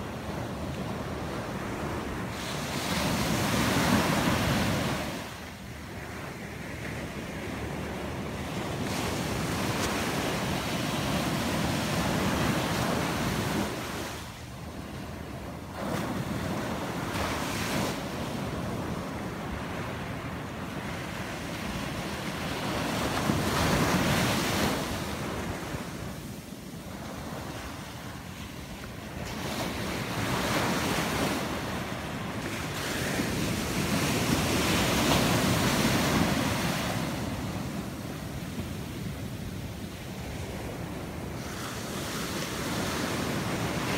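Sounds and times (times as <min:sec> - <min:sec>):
surf breaking on a beach: 0:00.0 - 0:43.9.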